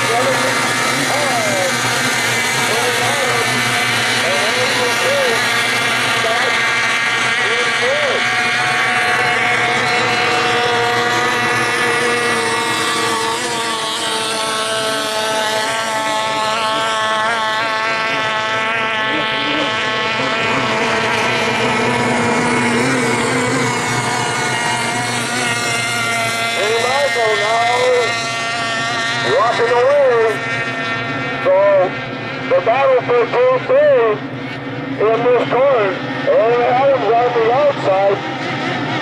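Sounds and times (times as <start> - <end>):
racing outboard engines whining: 0.0 - 39.0.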